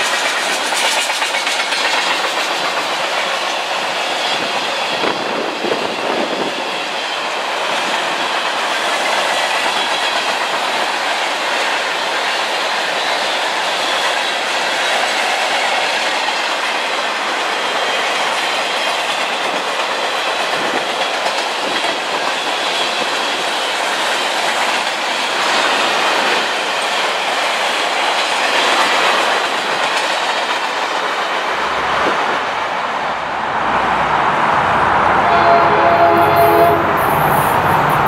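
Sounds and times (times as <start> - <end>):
train wheels on rail: 0.0 - 38.0.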